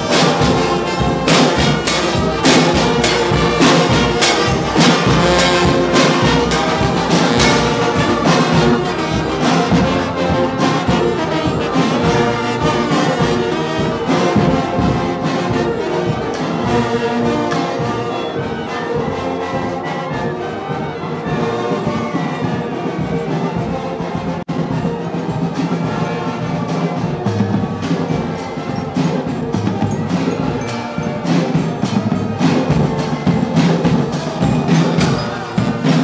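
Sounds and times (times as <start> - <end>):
marching brass band playing: 0.0 - 36.0.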